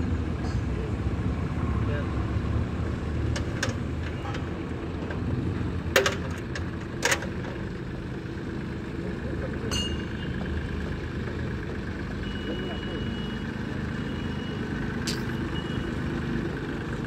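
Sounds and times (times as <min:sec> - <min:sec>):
tractor engine running: 0:02.2 - 0:17.0.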